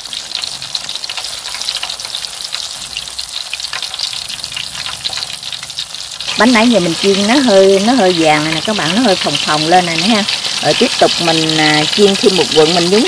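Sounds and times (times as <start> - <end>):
batter deep-frying in oil: 0.0 - 13.0.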